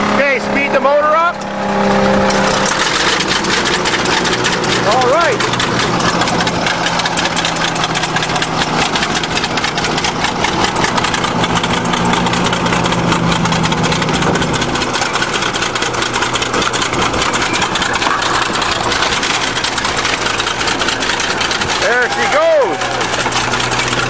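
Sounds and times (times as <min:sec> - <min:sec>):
bulldozer diesel engine clattering: 0:00.0 - 0:24.0
car engine running at speed: 0:00.0 - 0:24.0
steady droning tone: 0:00.0 - 0:24.0.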